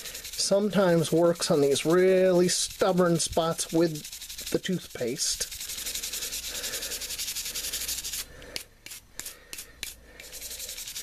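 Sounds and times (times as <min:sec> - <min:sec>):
toothbrush scrubbing knife blade: 0:00.0 - 0:11.0.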